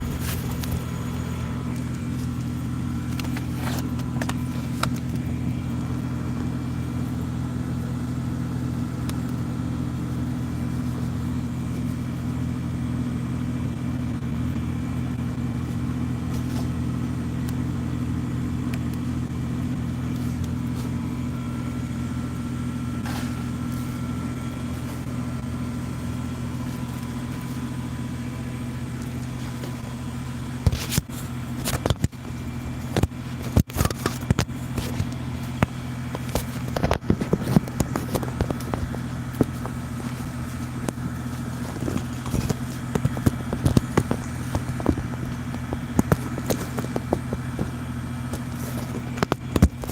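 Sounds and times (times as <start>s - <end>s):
steady low engine hum: 0.0s - 49.9s.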